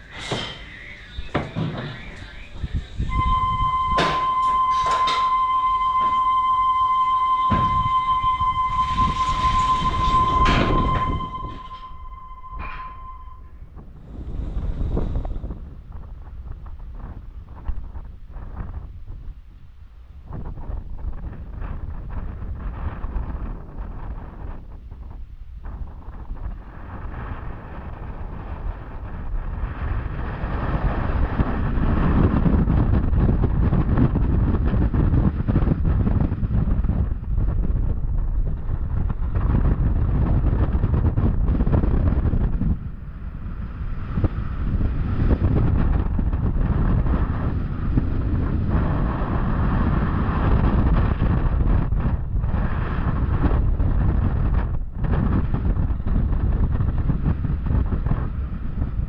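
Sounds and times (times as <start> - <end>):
roller coaster train rumbling: 0.0 - 18.6, 25.6 - 59.0
wind on microphone: 0.0 - 59.0.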